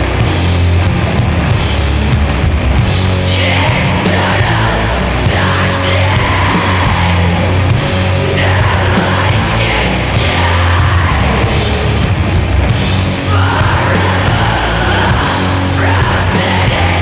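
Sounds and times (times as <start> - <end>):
distorted guitars and bass chords: 0.0 - 17.0.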